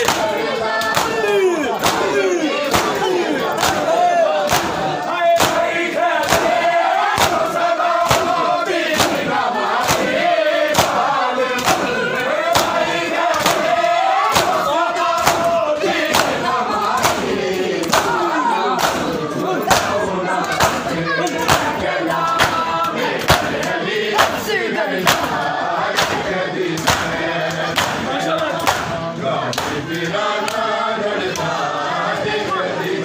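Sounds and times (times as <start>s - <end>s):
palms beating chests in unison: 0.0s - 29.9s
voices chanting a lament: 0.0s - 33.0s.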